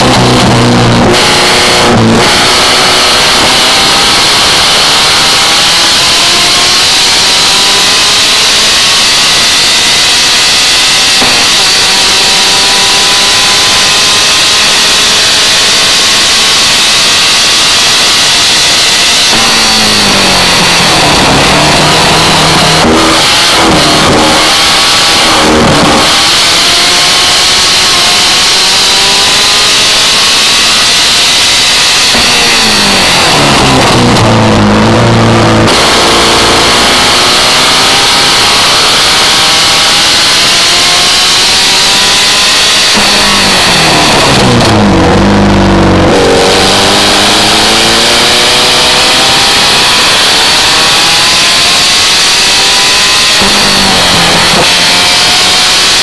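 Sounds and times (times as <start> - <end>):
sports car engine revving: 0.0 - 56.0
steady rushing noise: 0.0 - 56.0.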